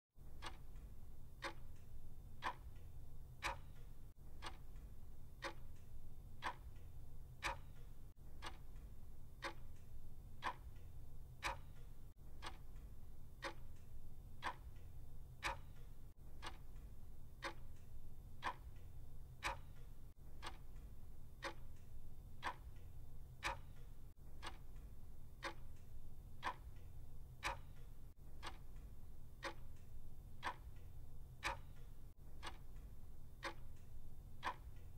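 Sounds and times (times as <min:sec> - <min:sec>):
clock ticking: 0:00.2 - 0:34.9.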